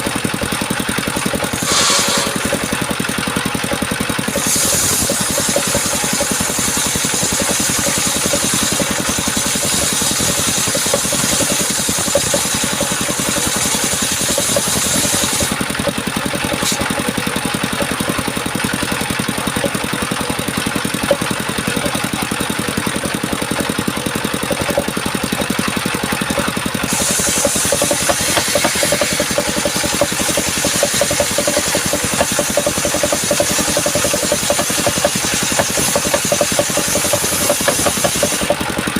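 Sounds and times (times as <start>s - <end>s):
saw blade cutting wood: 0.0s - 38.9s
sawmill engine running: 0.0s - 38.9s.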